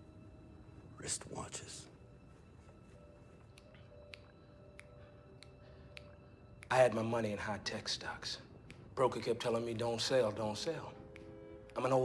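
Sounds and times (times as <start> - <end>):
faint steady tone: 0.0 - 12.0.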